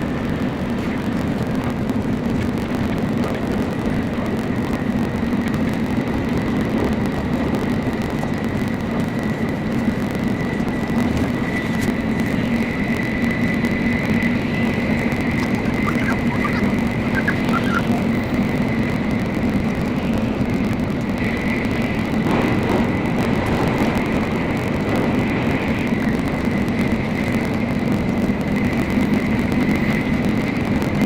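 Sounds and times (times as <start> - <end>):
steady high whine: 0.0 - 31.0
train interior rumble: 0.0 - 31.0.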